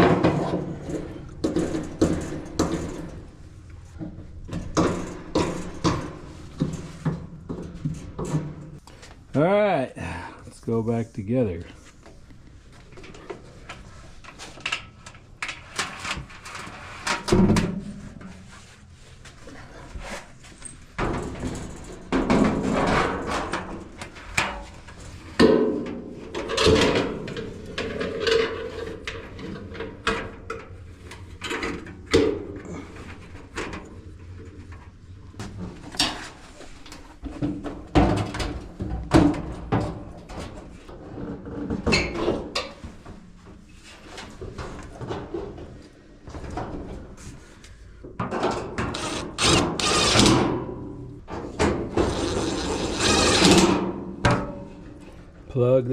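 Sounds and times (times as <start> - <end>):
metal panels knocking and scraping: 0.0 - 8.8, 13.0 - 18.6, 19.5 - 47.4, 48.1 - 55.3.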